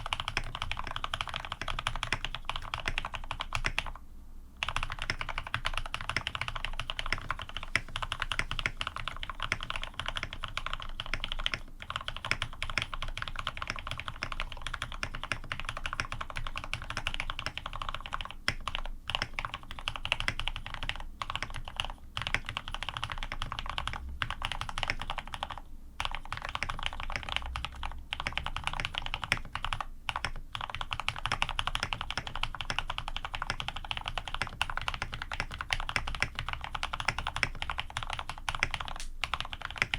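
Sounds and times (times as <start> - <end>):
fast mechanical keyboard typing: 0.0 - 4.0, 4.6 - 39.9.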